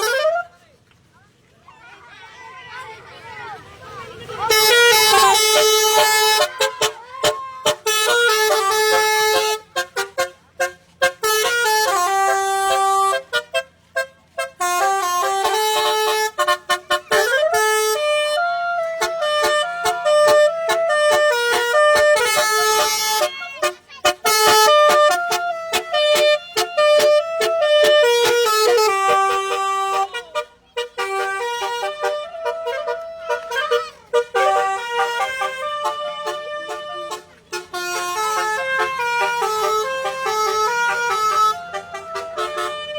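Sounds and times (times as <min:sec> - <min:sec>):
multi-trumpet vehicle horn melody: 0:00.0 - 0:00.6, 0:04.2 - 0:42.9.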